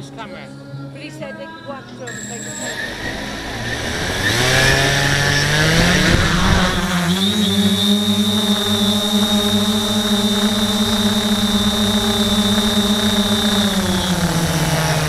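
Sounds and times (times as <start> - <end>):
quadcopter motors droning: 2.1 - 15.0.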